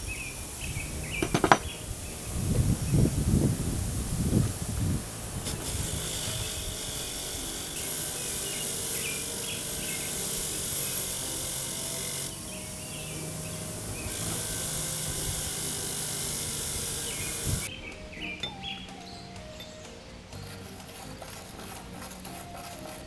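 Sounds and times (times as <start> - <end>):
wire wheel scouring rust off metal: 0.1 - 2.4, 3.6 - 17.7, 20.4 - 23.0
grinder motor humming: 0.8 - 17.7, 19.4 - 23.0.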